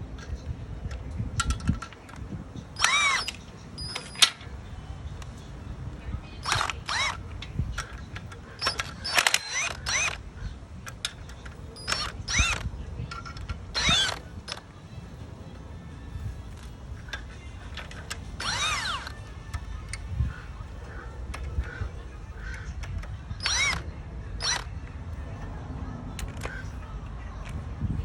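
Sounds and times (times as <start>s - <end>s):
ratchet clicking and whirring: 0.2s - 14.8s, 16.3s - 25.2s.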